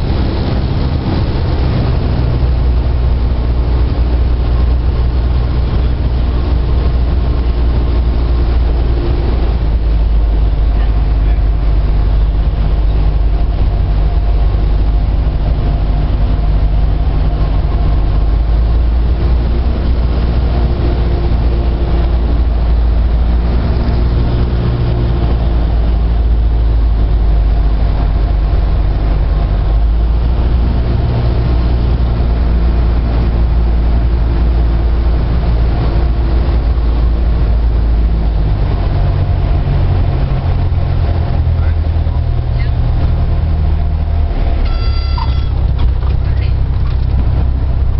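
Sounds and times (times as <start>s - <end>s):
airplane engine drone: 0.0s - 47.9s.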